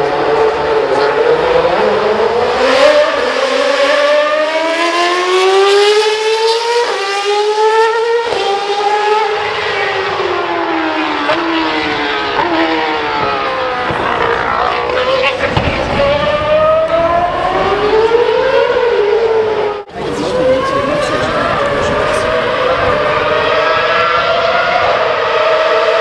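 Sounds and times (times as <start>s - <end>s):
racing car engine at high revs: 0.0s - 26.0s.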